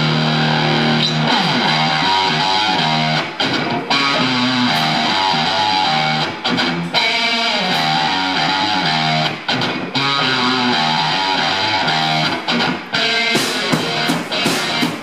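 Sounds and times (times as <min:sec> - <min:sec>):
electric guitar riff: 0:00.0 - 0:15.0.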